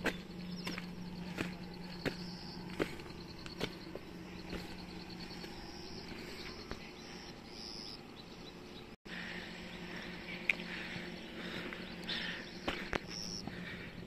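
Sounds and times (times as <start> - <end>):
insects chirping trill: 0.0 - 14.0
steady low hum: 0.0 - 14.0.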